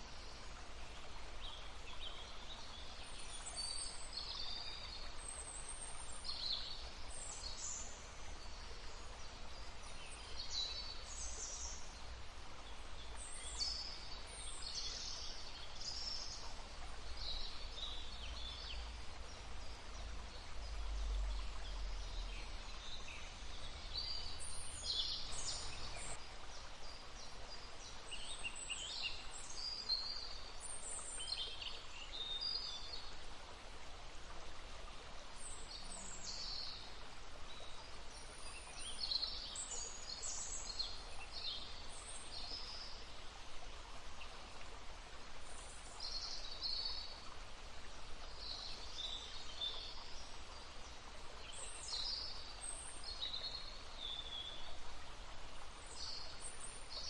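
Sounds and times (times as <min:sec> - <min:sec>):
songbirds chirping: 0:00.0 - 0:57.0
stream babbling: 0:00.0 - 0:57.0.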